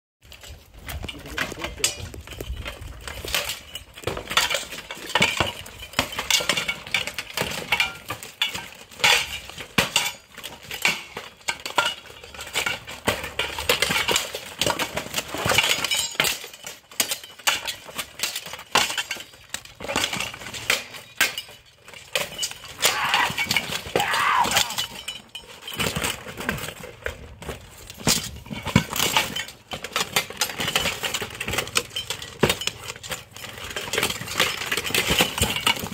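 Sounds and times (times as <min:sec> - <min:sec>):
armour plates rattling: 0:00.2 - 0:35.9.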